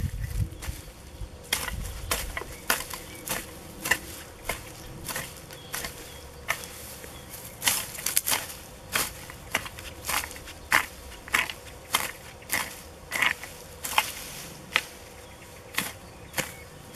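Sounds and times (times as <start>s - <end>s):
hoe chopping through turf: 1.4s - 16.9s.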